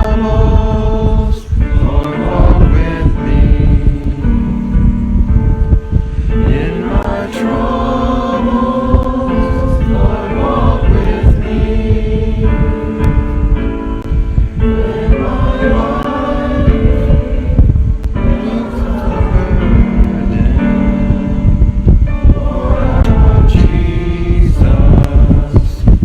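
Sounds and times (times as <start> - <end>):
congregation singing a hymn: 0.0 - 4.8, 6.2 - 13.8, 14.6 - 26.0.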